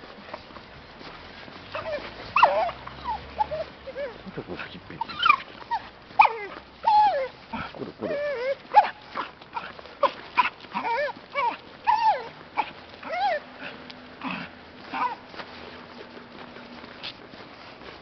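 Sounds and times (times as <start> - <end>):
small dog whining and yipping: 1.4 - 4.3, 5.0 - 18.0.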